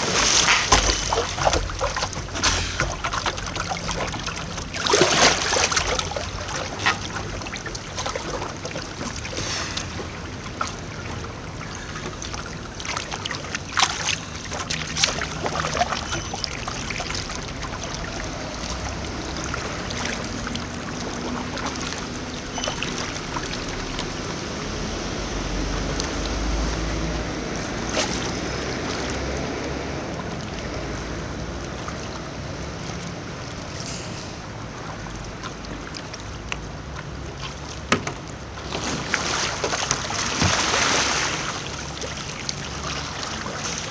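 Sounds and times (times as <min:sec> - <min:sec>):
kayak paddle splashing in water: 0:00.0 - 0:34.0, 0:34.8 - 0:43.9
water lapping: 0:00.0 - 0:43.9.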